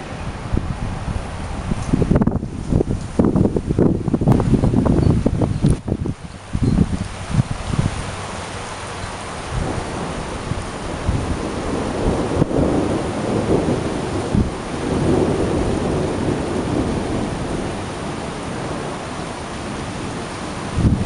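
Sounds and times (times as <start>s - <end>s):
rolling thunder: 0.0s - 8.0s, 9.4s - 21.0s
steady rain: 0.0s - 21.0s.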